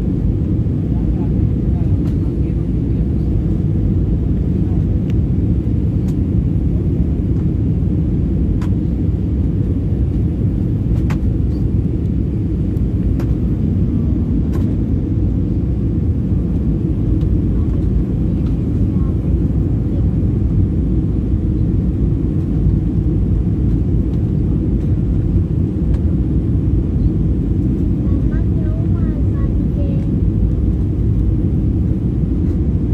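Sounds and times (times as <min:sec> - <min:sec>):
airliner cabin rumble: 0:00.0 - 0:32.9.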